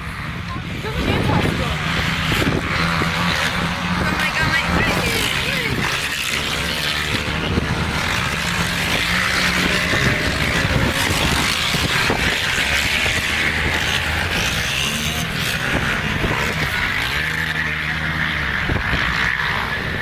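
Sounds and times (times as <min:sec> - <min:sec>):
dirt bike engines running: 0:00.0 - 0:20.0.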